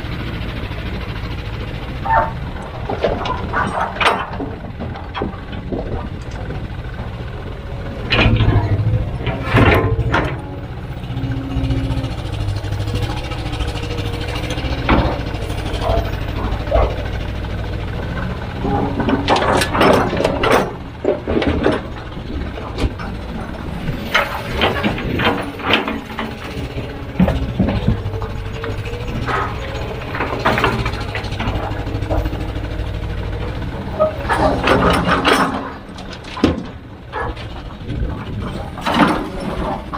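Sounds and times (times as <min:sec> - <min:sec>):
diesel engine running: 0:00.0 - 0:39.9
metal clanks and knocks: 0:00.0 - 0:39.9.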